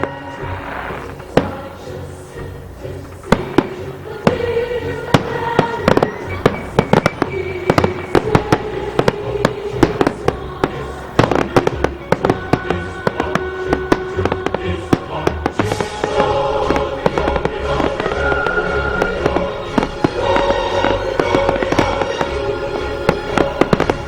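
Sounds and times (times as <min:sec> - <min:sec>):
fireworks bangs and crackles: 0:00.0 - 0:24.0
music: 0:00.0 - 0:24.0.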